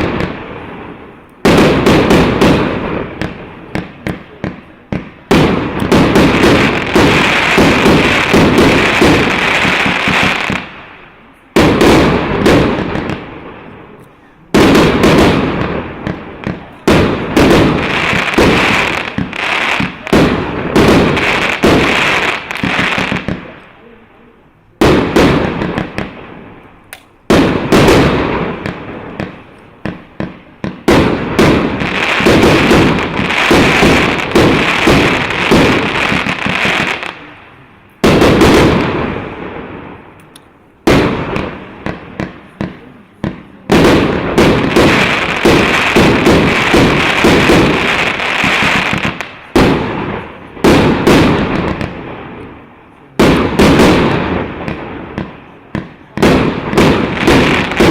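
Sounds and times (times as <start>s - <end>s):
fireworks launches and bursts: 0.0s - 23.8s, 24.8s - 57.9s.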